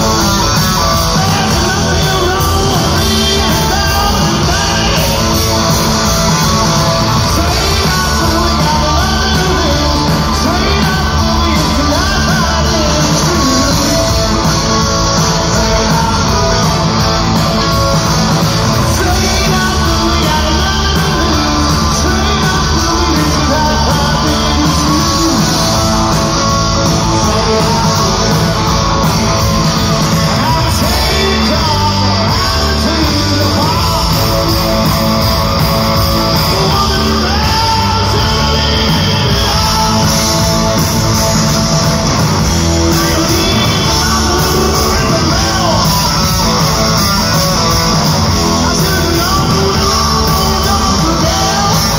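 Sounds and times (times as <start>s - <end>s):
man singing into microphone: 0.0s - 17.2s, 18.6s - 35.0s, 36.0s - 40.9s, 42.6s - 51.9s
electric guitars: 0.0s - 51.9s.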